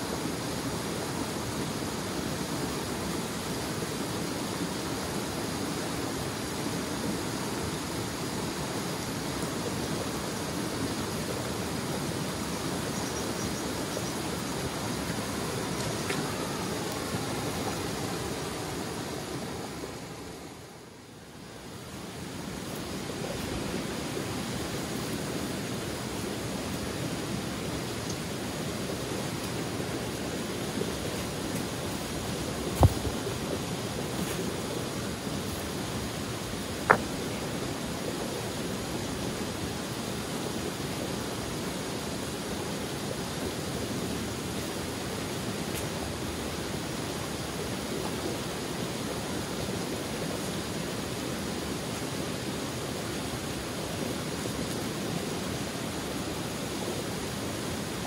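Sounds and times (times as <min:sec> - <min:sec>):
forest stream flowing: 0:00.0 - 0:58.0
rushing water: 0:00.0 - 0:58.0.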